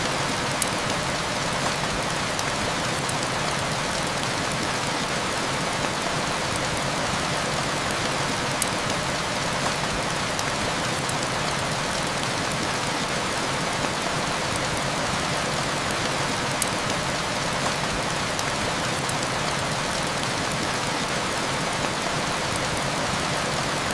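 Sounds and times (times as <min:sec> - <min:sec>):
heavy rain hissing: 0:00.0 - 0:23.9.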